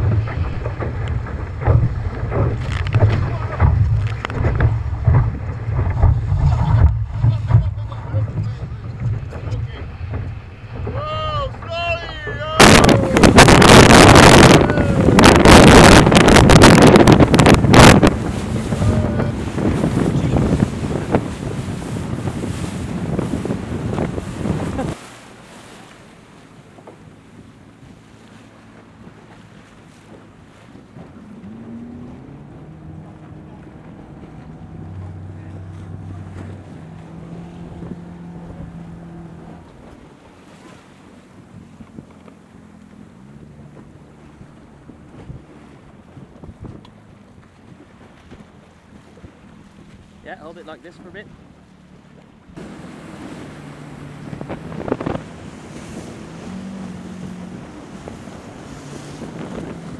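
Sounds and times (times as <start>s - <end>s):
motorboat engine running: 0.0s - 59.9s
water rushing and splashing: 0.0s - 59.9s
wind buffeting microphone: 0.0s - 59.9s.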